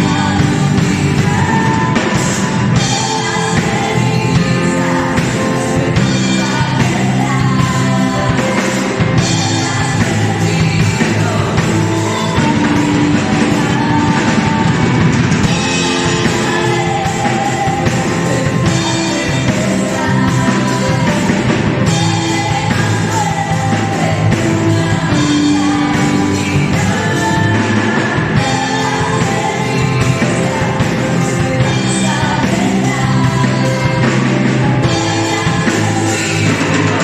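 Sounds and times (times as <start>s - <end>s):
person singing: 0.0s - 37.0s
rock band playing: 0.0s - 37.0s.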